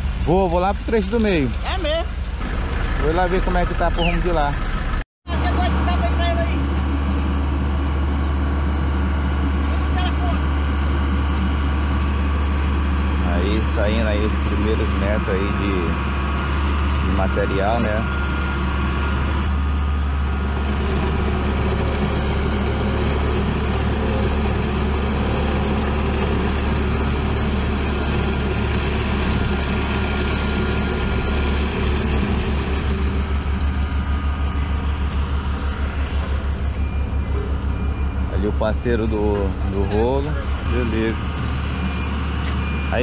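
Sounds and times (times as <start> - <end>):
diesel engine humming: 0.0 - 43.0.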